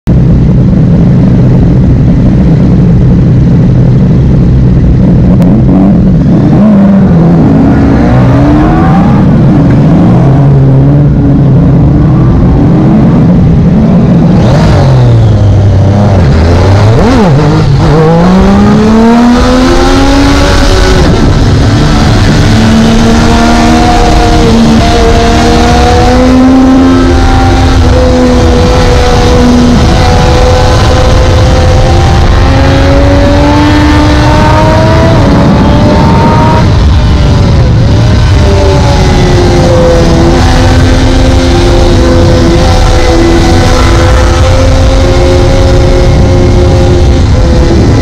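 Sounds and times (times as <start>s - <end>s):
motorcycle engine revving: 0.1s - 48.0s.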